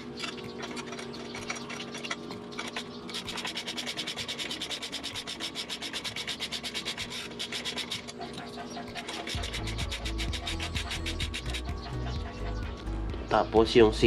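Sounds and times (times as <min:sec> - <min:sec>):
hand tool rasping on nut: 0:00.0 - 0:12.6.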